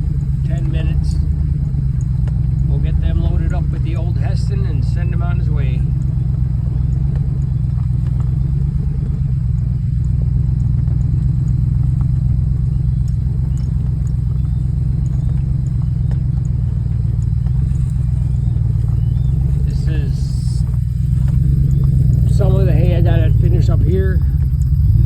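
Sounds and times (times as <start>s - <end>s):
faint ticks and rattles: 0.0s - 25.0s
vehicle engine droning: 0.0s - 25.0s.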